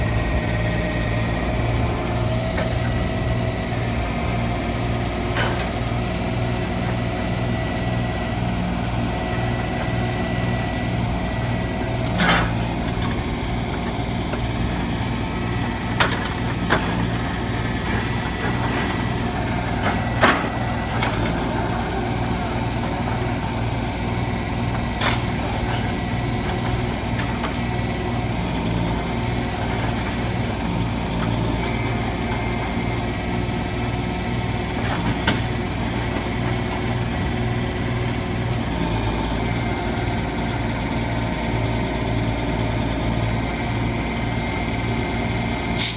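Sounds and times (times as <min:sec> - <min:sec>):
heavy machinery engine whining: 0:00.0 - 0:45.9.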